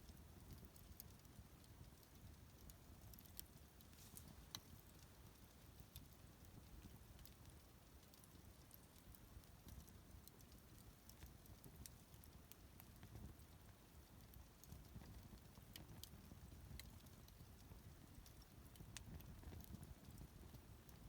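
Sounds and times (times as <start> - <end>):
faint bonfire crackling: 0.0 - 21.0.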